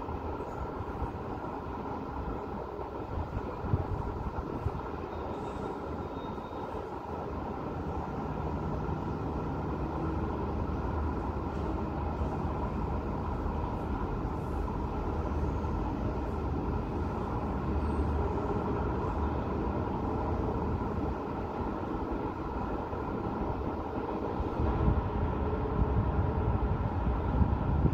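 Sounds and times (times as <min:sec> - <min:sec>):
city traffic rumble: 0:00.0 - 0:27.9.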